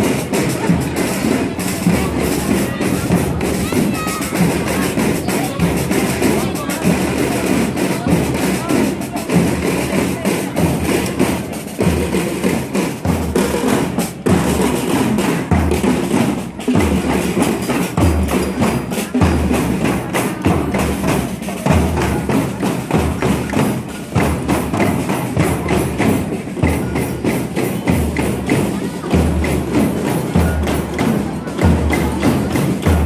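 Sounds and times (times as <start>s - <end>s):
music with drum beat: 0.0s - 33.0s
wood block percussion: 0.0s - 33.0s.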